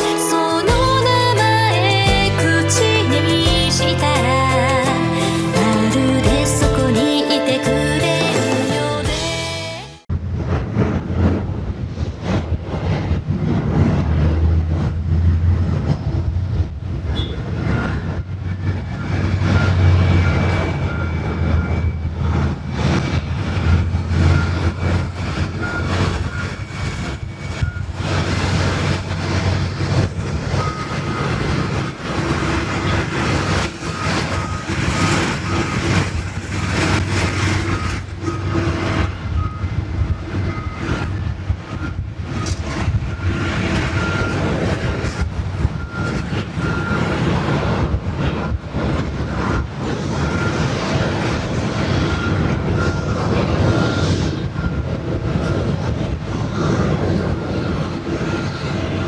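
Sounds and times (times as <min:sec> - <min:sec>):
jet engine noise: 0:10.0 - 0:59.0.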